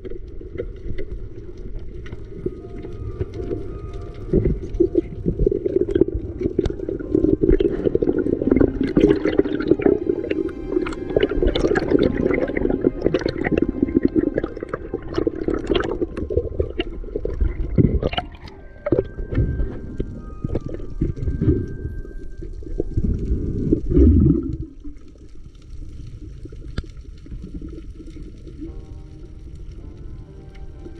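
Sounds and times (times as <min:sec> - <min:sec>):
water sloshing and gurgling: 0:00.0 - 0:28.9.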